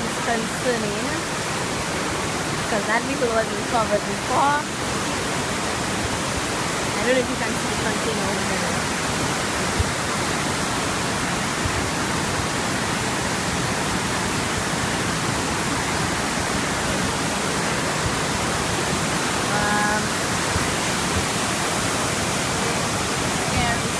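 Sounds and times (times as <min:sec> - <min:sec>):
floodwater rushing: 0:00.0 - 0:23.9.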